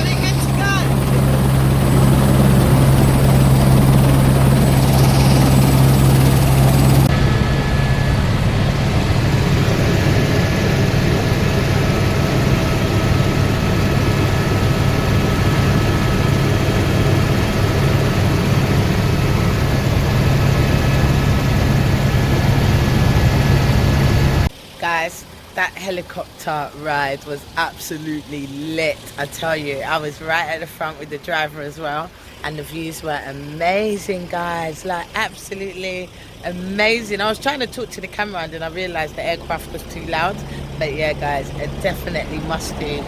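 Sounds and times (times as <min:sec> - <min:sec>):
helicopter rotor and engine drone: 0:00.0 - 0:43.0.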